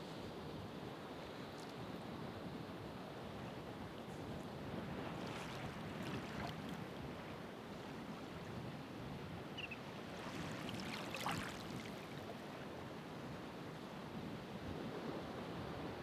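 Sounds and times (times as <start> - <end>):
ocean waves washing ashore: 2.6 - 16.0.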